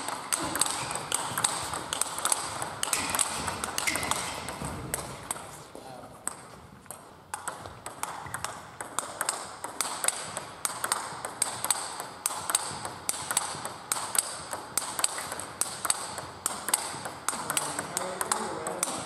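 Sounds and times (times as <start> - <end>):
table tennis ball clicking: 0.0 - 5.5, 6.2 - 19.0.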